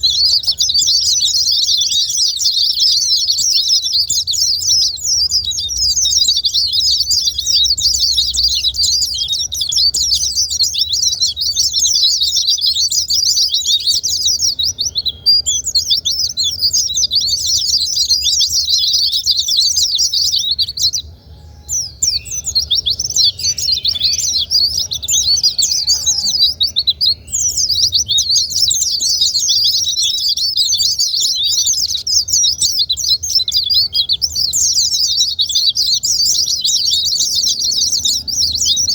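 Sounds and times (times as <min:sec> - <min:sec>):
white-eyes twittering: 0:00.0 - 0:38.9.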